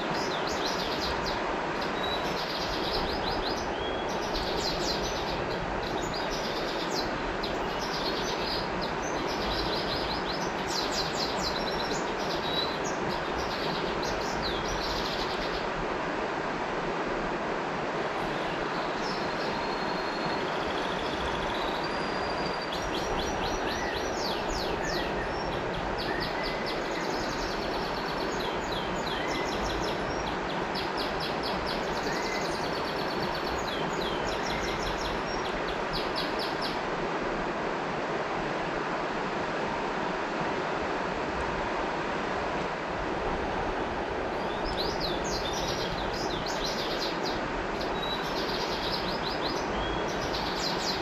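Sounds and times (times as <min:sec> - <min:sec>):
birds singing: 0:00.0 - 0:15.7, 0:18.2 - 0:36.8, 0:44.3 - 0:51.0
river water flowing: 0:00.0 - 0:51.0.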